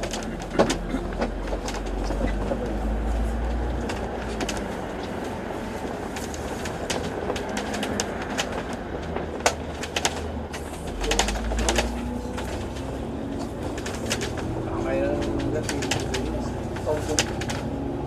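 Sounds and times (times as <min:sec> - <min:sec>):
bus body rattling: 0:00.0 - 0:18.0
bus engine and road rumble: 0:00.0 - 0:18.0.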